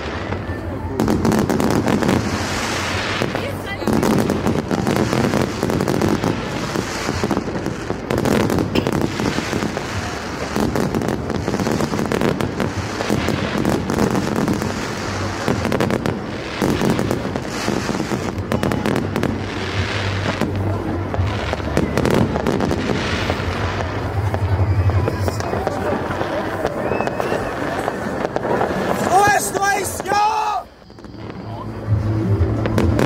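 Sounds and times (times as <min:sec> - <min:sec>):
fireworks bangs and pops: 0:00.0 - 0:33.0.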